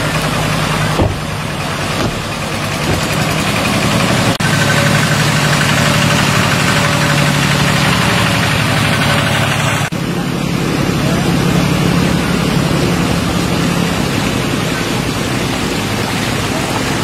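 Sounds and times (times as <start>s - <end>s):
diesel tractor engine running: 0.0s - 17.0s
water splashing from wheels: 0.0s - 17.0s.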